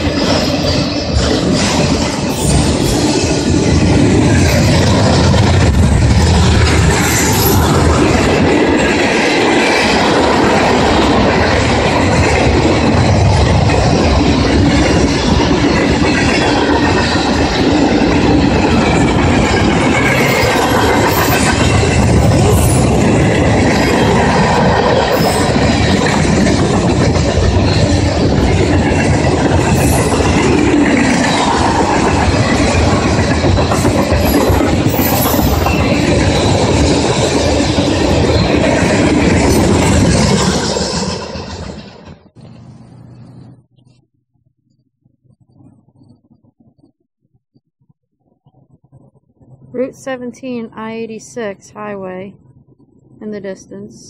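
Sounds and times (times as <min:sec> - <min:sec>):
train wheels on rails: 0:00.0 - 0:44.0.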